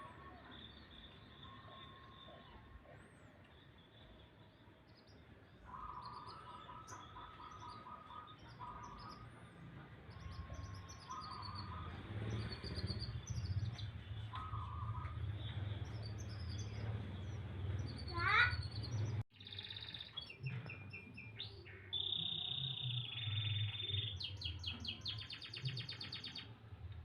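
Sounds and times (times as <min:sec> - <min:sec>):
high bird chirps: 0:03.4 - 0:26.5.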